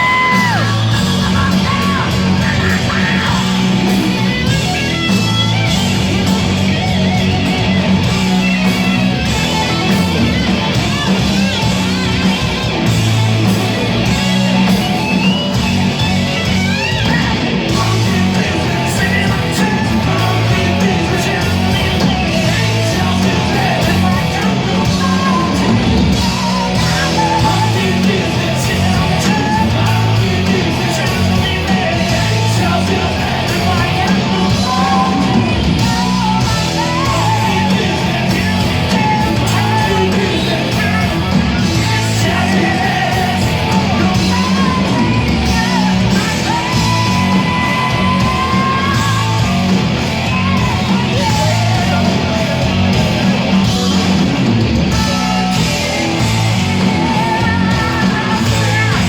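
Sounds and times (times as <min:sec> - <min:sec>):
bass guitar: 0:00.0 - 0:59.0
distorted electric guitars: 0:00.0 - 0:59.0
drums: 0:00.0 - 0:59.0
singer yelling: 0:00.0 - 0:59.0.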